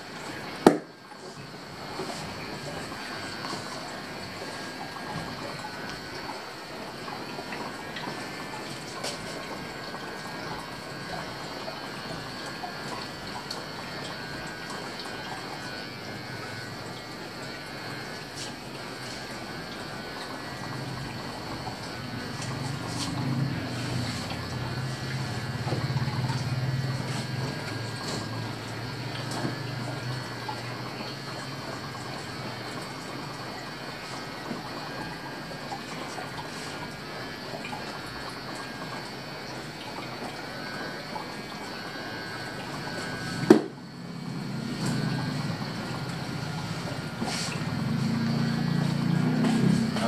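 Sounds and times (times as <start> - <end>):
barbershop room noise: 0.0 - 50.0.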